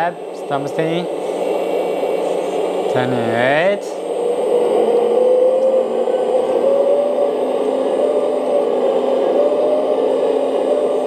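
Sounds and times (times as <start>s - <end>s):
hydraulic pump whirring: 0.0s - 11.0s.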